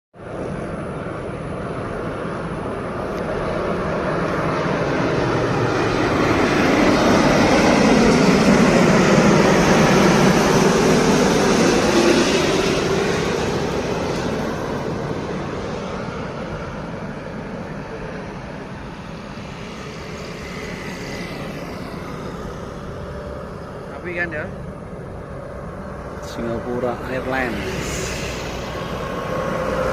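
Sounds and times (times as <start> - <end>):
jet airliner passing overhead: 0.2 - 29.9.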